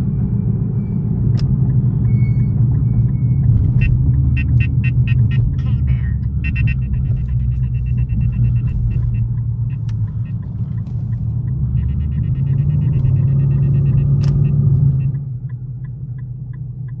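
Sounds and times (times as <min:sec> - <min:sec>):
car exhaust droning: 0:00.0 - 0:16.3.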